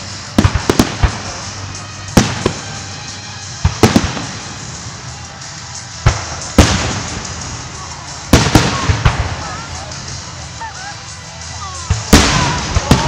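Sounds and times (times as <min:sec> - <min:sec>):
firework shells bursting: 0:00.0 - 0:13.0
steady hiss: 0:00.0 - 0:13.0.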